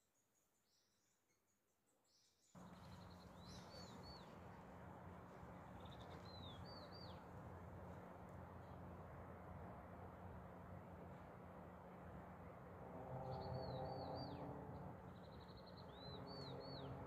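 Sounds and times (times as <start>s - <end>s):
outdoor background hiss: 2.5s - 17.0s.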